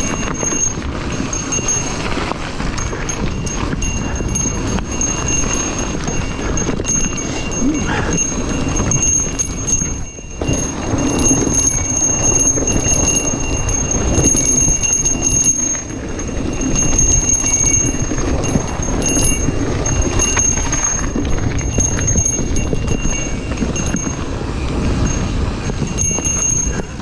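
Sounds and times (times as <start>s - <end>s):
mountain bike rattling on dirt trail: 0.0s - 27.0s.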